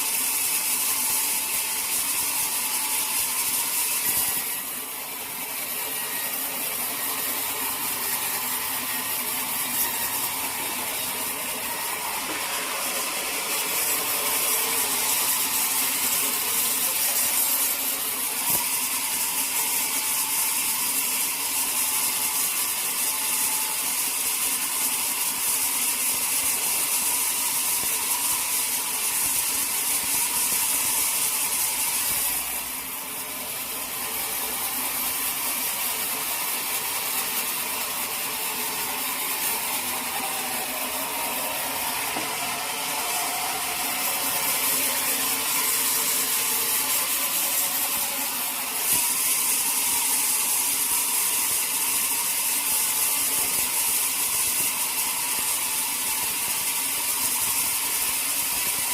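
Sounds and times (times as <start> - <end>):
sawmill machinery hissing: 0.0 - 58.9.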